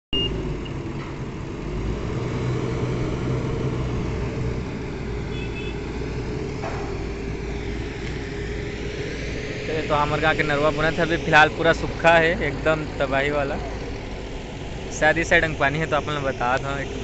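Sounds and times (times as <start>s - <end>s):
diesel engine running: 0.1s - 17.0s.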